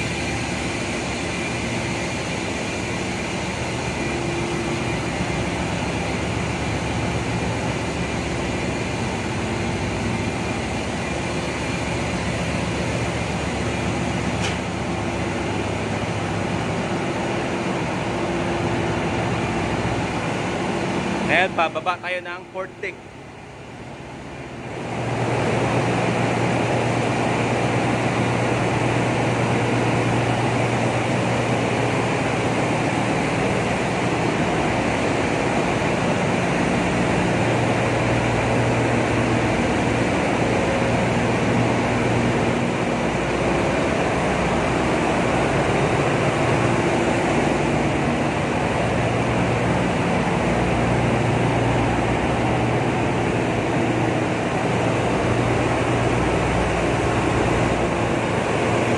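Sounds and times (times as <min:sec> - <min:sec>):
engine room machinery roar: 0:00.0 - 0:58.9.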